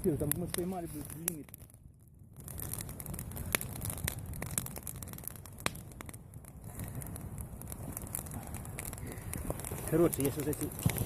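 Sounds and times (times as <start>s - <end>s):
campfire crackling: 0.0s - 11.0s
steady low rumble: 0.0s - 11.0s.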